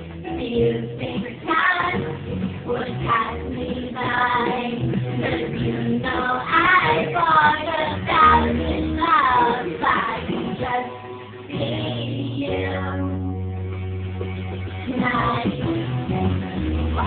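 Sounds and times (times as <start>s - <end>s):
bass line: 0.0s - 17.0s
song with singing voice: 0.0s - 17.0s.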